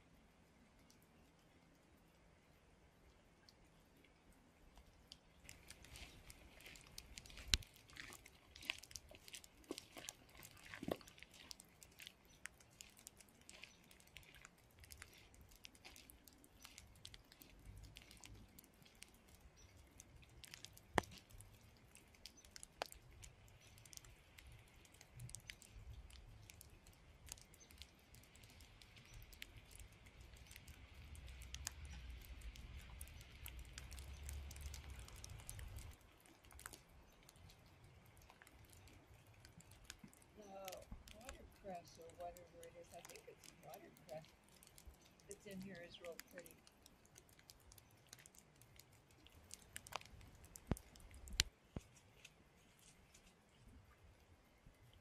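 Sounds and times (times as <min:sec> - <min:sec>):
raindrops pattering: 0:00.0 - 0:55.0.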